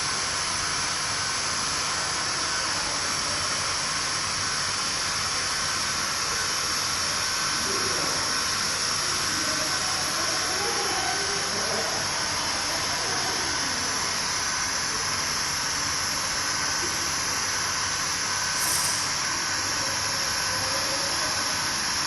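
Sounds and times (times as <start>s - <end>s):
hot-air welding gun hissing: 3.1s - 22.0s.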